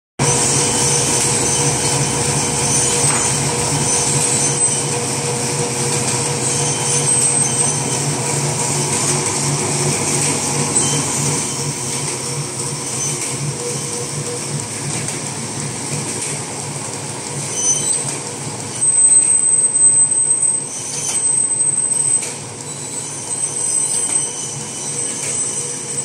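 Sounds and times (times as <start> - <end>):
constant machine hum: 0.2 - 26.0.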